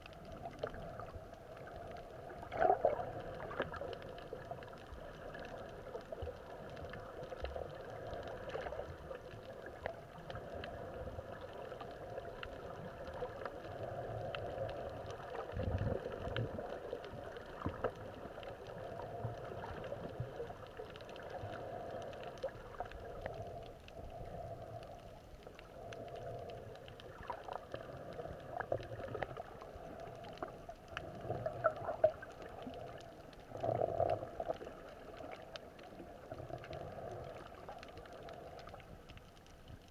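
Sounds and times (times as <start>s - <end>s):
faint clicks and crackles: 0.0s - 39.9s
underwater hum: 0.0s - 39.9s
water gurgling: 0.0s - 39.9s.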